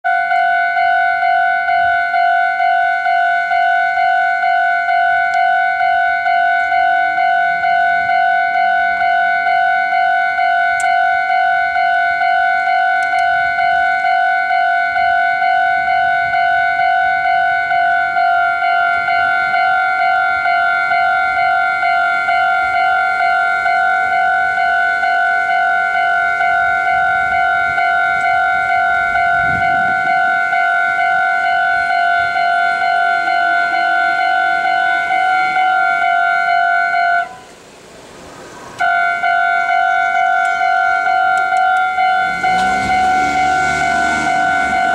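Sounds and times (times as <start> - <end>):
level-crossing alarm bell: 0.0 - 37.5, 38.8 - 44.9.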